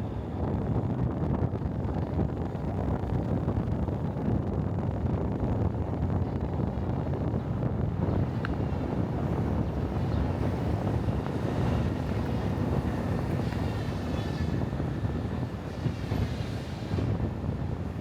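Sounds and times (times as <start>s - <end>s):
vehicle engine rumble: 0.0s - 18.0s
wind noise on microphone: 0.0s - 18.0s.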